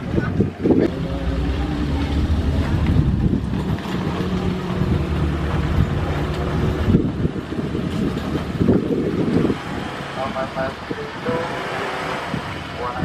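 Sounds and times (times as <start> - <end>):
wind buffeting microphone: 0.0 - 13.0
aircraft engine hum: 0.6 - 13.0.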